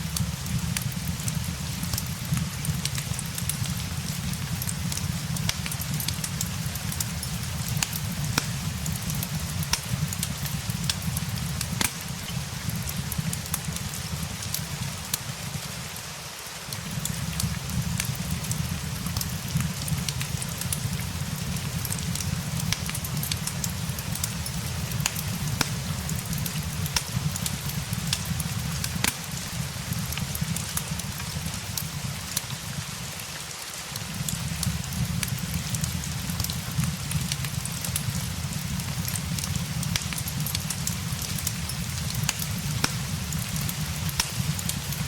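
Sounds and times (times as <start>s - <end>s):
steady rain hiss: 0.0s - 45.0s
wood fire crackling and popping: 0.0s - 45.0s.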